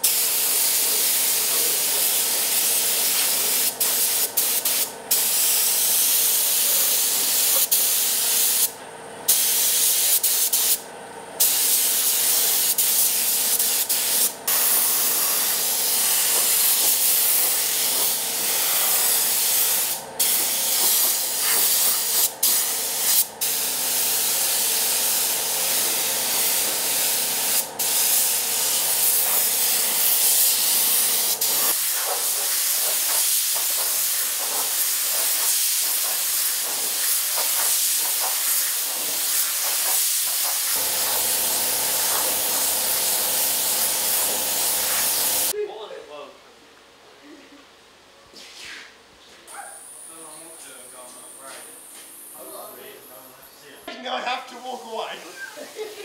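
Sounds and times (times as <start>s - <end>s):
paint spray gun hissing: 0.0s - 10.8s, 11.4s - 45.5s.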